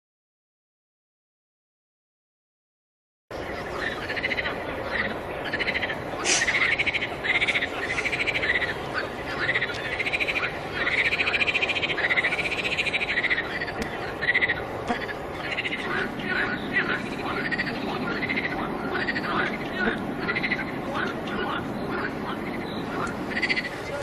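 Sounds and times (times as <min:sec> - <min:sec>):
frogs calling in chorus: 0:03.5 - 0:24.0.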